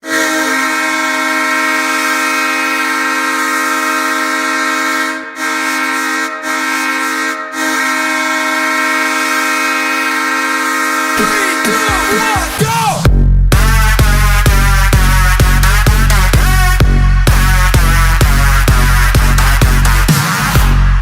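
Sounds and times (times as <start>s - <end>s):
goal horn blast: 0.0s - 21.0s.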